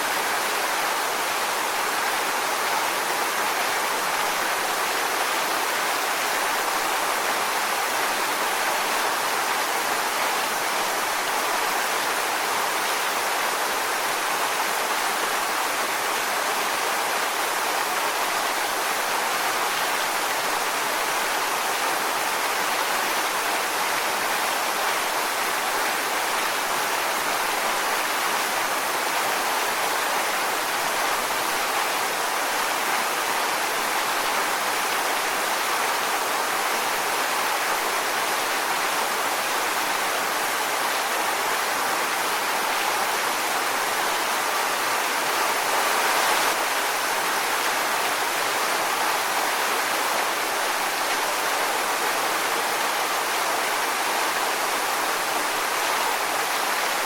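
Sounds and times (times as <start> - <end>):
waterfall onto rocks: 0.0 - 57.0.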